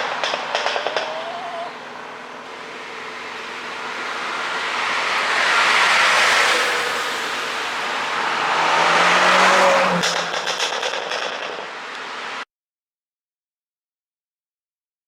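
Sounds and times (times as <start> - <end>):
car exhaust crackling and popping: 0.0 - 12.4
rush of car noise: 0.0 - 12.4.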